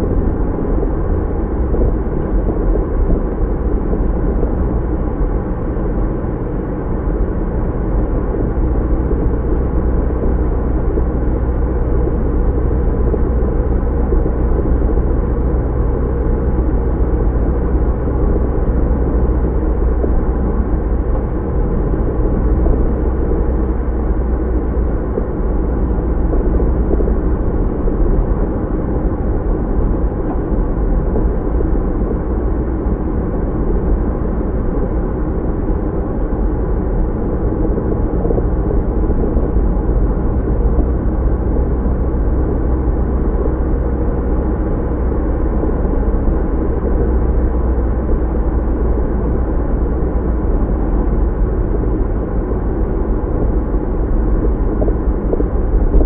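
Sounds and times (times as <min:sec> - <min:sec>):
low engine hum: 0:00.0 - 0:56.0
tyres rumbling on road: 0:00.0 - 0:56.0.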